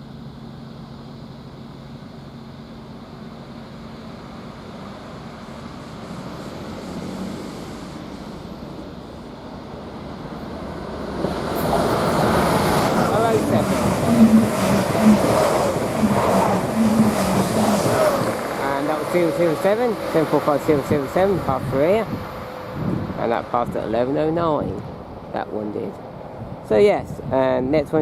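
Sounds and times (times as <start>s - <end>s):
electric train running through station: 0.0s - 28.0s.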